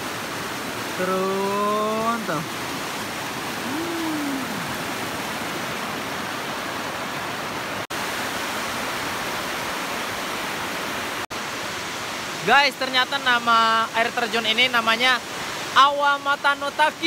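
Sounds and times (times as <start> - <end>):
water rushing down rock cascade: 0.0 - 17.0.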